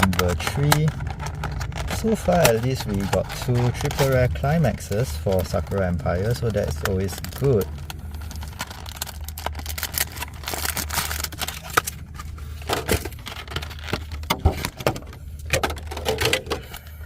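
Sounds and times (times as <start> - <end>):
cardboard crackling: 0.0 - 15.2
plastic shrink wrap crinkling: 0.0 - 16.8
steady low hum: 0.0 - 17.0.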